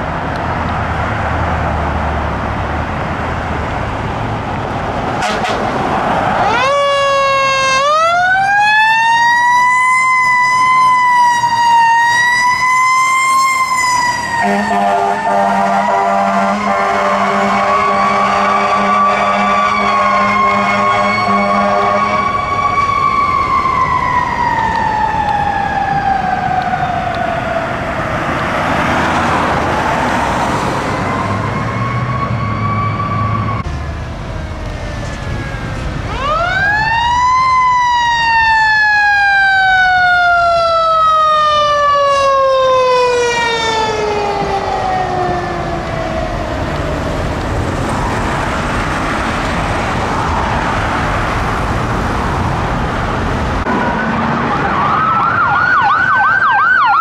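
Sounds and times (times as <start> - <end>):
fire engine sirens wailing: 0.0 - 57.0
fire truck engine rumble: 0.0 - 57.0.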